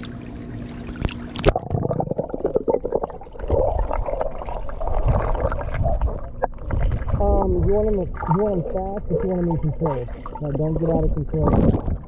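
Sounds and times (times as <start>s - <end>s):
gurgling bubbles: 0.0s - 12.0s.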